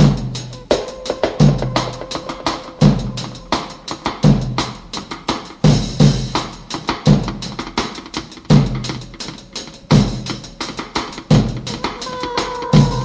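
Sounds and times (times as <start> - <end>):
snare drum: 0.0 - 13.0
cymbal ticks: 0.1 - 13.0.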